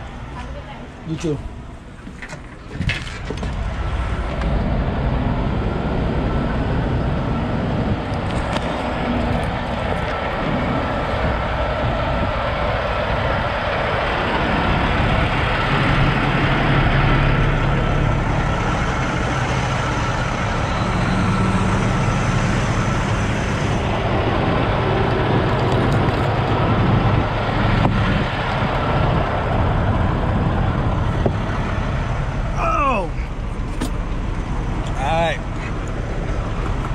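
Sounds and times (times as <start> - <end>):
diesel truck engine idling: 0.0 - 36.9.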